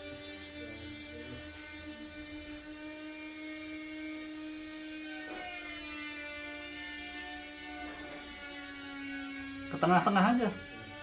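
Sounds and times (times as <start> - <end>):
electric machine hum with whine: 0.0 - 11.0.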